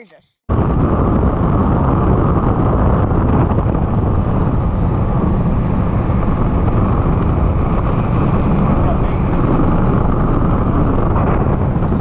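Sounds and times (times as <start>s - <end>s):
boat motor drone: 0.5s - 12.0s
wind rushing on microphone: 0.5s - 12.0s.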